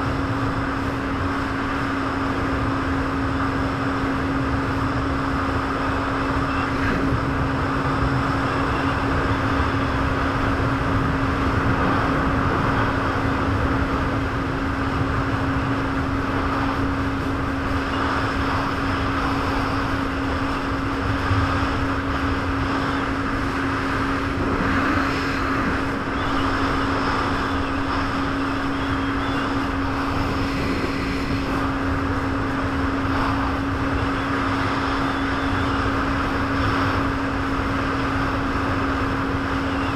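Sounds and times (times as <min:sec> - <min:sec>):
jet ski engine humming: 0:00.0 - 0:39.9
wind and water rushing: 0:00.0 - 0:39.9.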